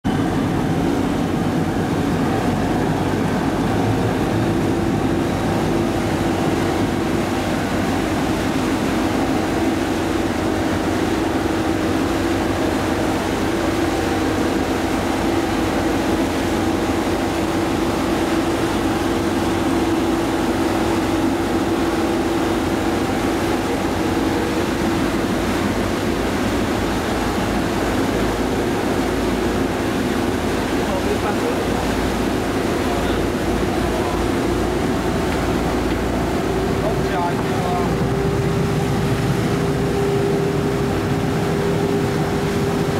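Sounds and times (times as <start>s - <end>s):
ferry engine droning: 0.1s - 42.9s.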